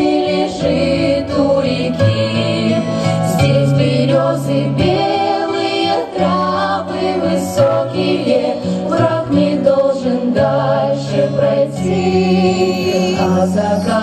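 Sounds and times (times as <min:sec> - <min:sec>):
backing track bass line: 0:00.0 - 0:14.0
women singing in harmony: 0:00.0 - 0:14.0.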